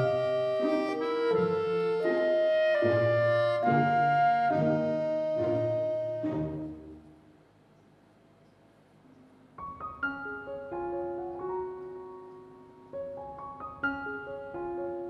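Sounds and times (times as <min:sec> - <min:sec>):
gentle piano tune: 0:00.0 - 0:07.0, 0:09.1 - 0:15.0.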